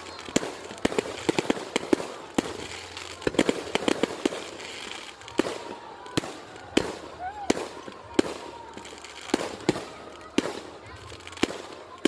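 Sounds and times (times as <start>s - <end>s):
fireworks shells bursting: 0.0s - 12.0s.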